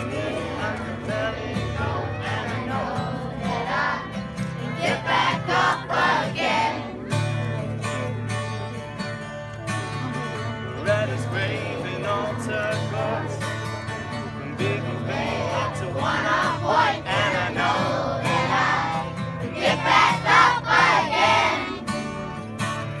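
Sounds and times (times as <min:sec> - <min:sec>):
acoustic guitars strumming: 0:00.0 - 0:23.0.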